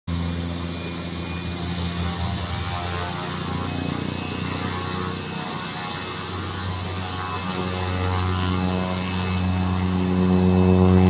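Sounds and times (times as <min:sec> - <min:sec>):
propeller drone: 0:00.0 - 0:11.0
turbine whine: 0:00.0 - 0:11.0.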